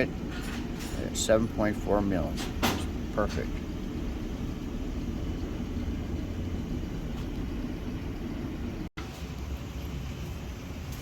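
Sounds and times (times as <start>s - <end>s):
low rumbling workshop noise: 0.0s - 11.0s.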